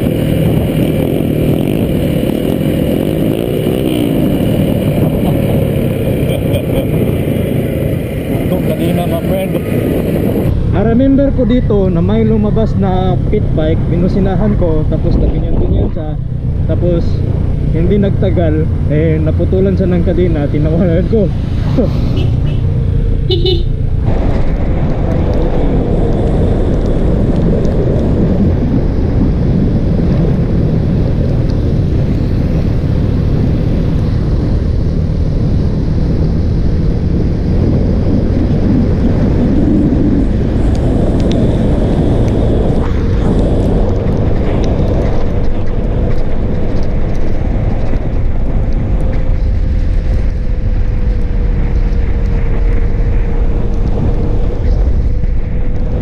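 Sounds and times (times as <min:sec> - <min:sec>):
motorcycle engine cruising: 0:00.0 - 0:56.0
wind buffeting microphone: 0:00.0 - 0:56.0.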